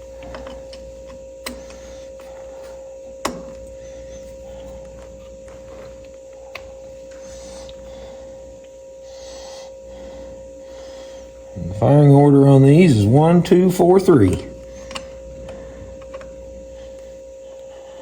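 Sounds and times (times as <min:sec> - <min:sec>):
high-pitched electrical hum: 0:00.0 - 0:18.0.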